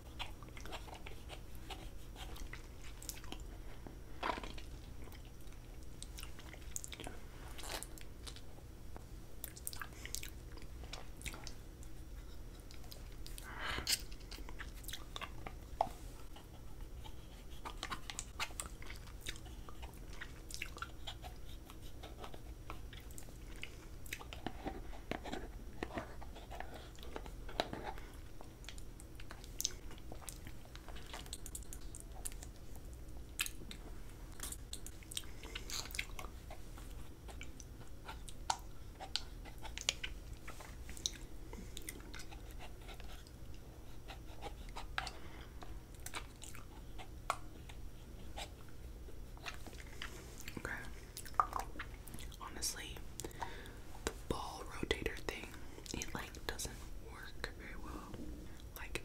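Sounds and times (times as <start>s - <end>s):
person chewing candy: 0.0s - 8.6s, 9.3s - 56.5s.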